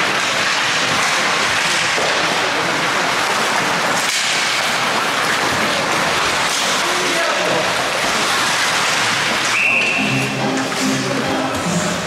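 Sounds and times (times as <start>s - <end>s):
skate blades scraping ice: 0.0s - 11.2s.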